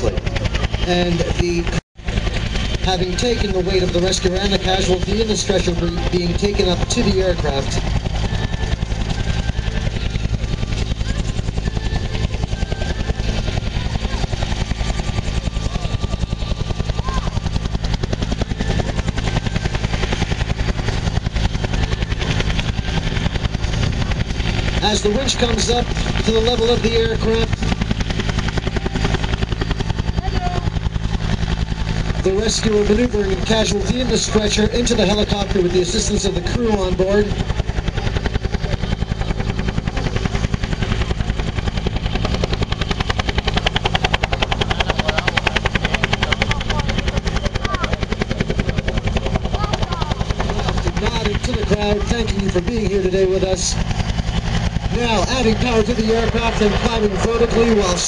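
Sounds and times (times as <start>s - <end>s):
engine and rotor rumble: 0.0s - 58.0s
helicopter rotor beating: 0.0s - 58.0s.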